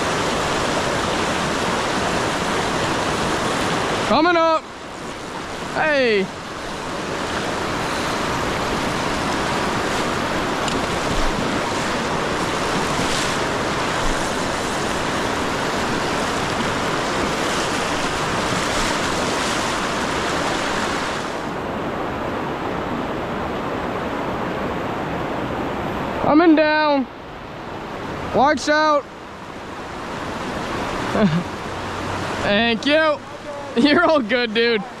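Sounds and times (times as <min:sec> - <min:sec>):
river water rushing: 0:00.0 - 0:35.0.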